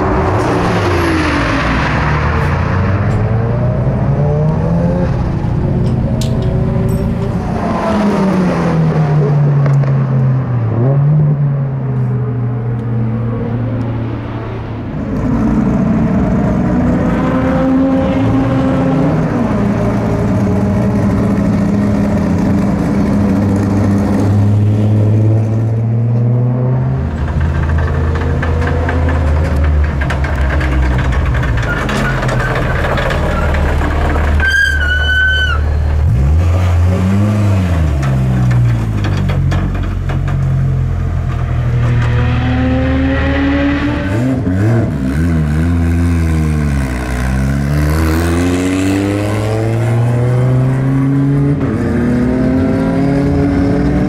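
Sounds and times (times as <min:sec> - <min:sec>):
race car engine revving: 0:00.0 - 0:11.9, 0:12.5 - 0:39.0, 0:39.9 - 0:54.0.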